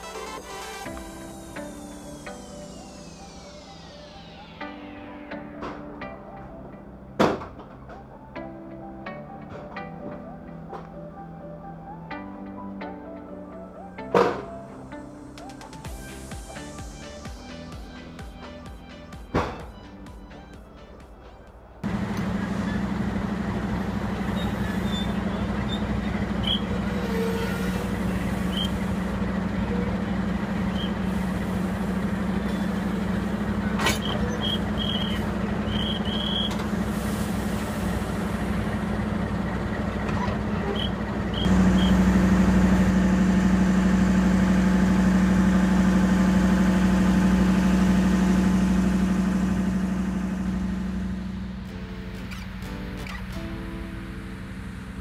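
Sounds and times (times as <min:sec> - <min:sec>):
locomotive engine humming: 0:00.0 - 0:55.0.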